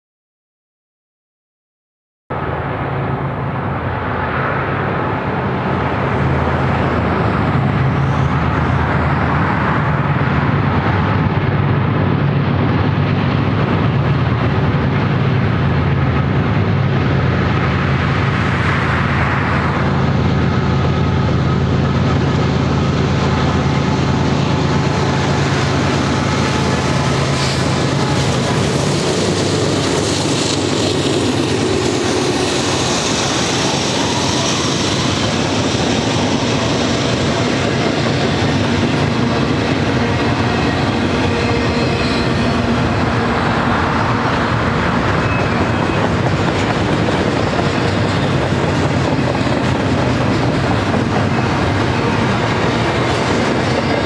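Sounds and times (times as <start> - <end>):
locomotive engine drone: 2.3 - 54.0
train wheels rumbling on rails: 2.3 - 54.0.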